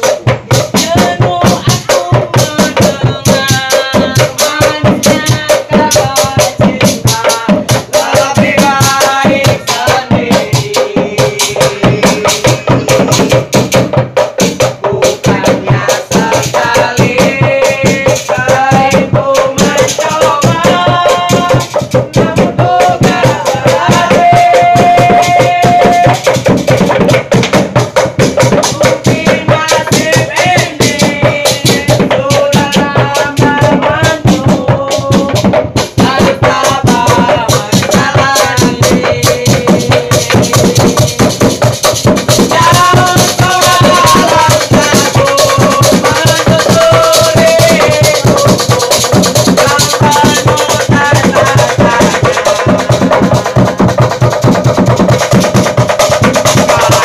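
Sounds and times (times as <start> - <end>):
group chanting and singing: 0.0 - 57.0
hand drum beat: 0.0 - 57.0.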